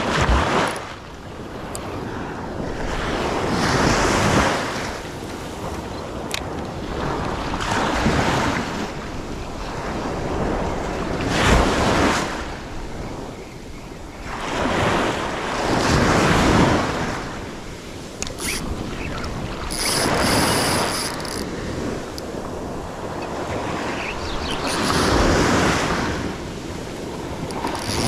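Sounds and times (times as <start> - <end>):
ocean waves washing on beach: 0.0 - 28.0
wind buffeting microphone: 0.0 - 28.0.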